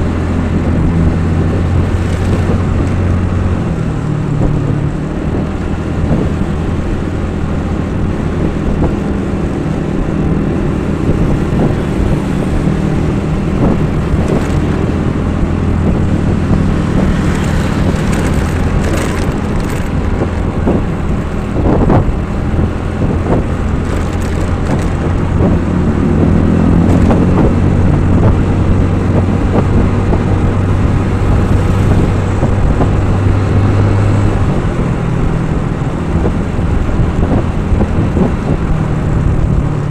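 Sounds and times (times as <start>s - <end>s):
road and wind noise: 0.0s - 39.9s
vehicle engine humming: 0.0s - 39.9s.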